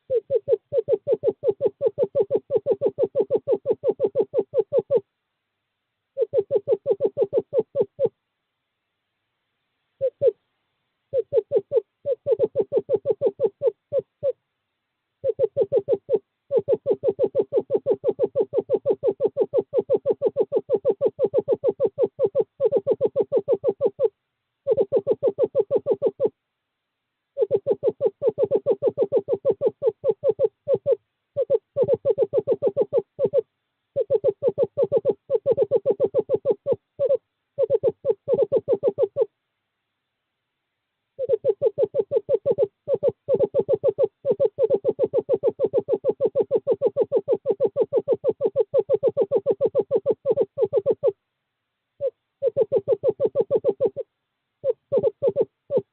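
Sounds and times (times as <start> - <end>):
owl trilling: 0.0 - 5.1, 6.1 - 8.2, 10.0 - 10.4, 11.1 - 14.4, 15.2 - 26.4, 27.4 - 39.4, 41.2 - 51.2, 52.0 - 55.9.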